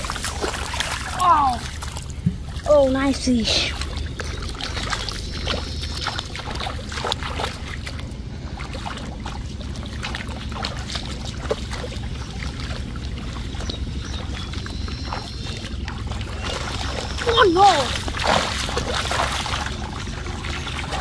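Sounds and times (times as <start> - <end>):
feet splashing through water and mud: 0.0 - 21.0
steady low rumble: 0.0 - 21.0.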